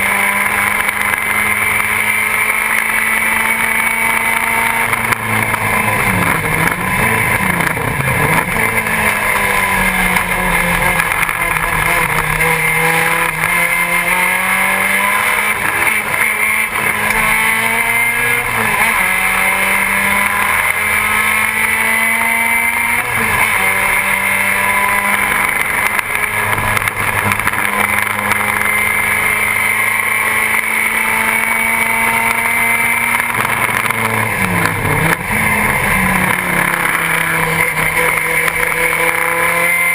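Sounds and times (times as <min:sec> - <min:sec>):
race car engine at full throttle: 0:00.0 - 0:39.9
road and wind noise: 0:00.0 - 0:39.9.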